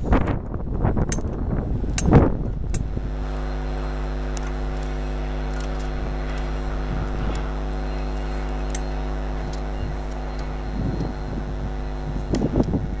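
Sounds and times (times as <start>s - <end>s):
electric locomotive humming: 0.0s - 13.0s
uneven low rumbling: 0.0s - 13.0s
sharp clicks: 0.1s - 3.0s, 4.3s - 11.2s, 12.1s - 12.8s.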